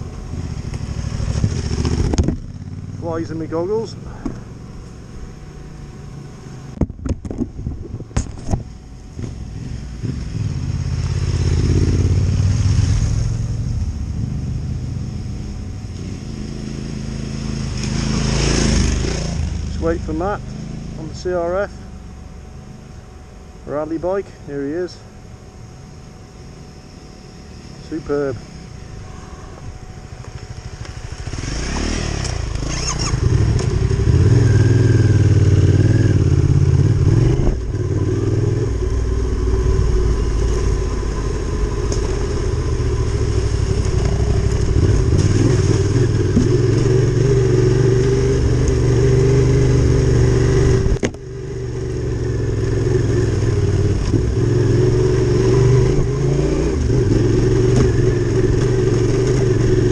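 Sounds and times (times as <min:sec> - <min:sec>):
motorcycle engine revving: 0:00.0 - 0:23.0, 0:26.4 - 0:59.9.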